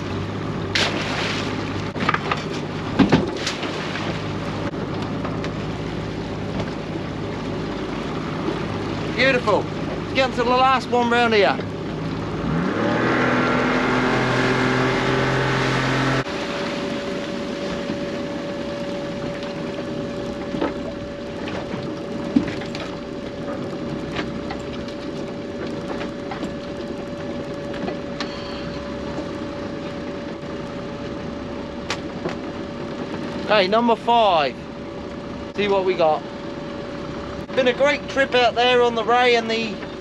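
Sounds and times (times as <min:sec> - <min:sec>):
water against boat hull: 0:00.0 - 0:12.5, 0:13.3 - 0:40.0
outboard motor running: 0:00.0 - 0:40.0.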